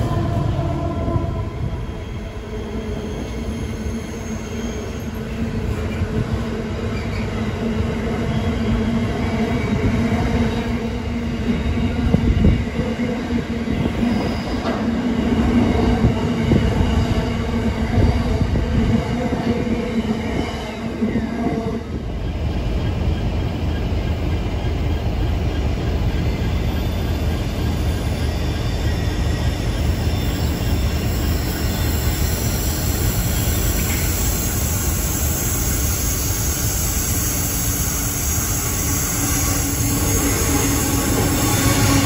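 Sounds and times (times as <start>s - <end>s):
freight train rumbling on rails: 0.0s - 42.0s.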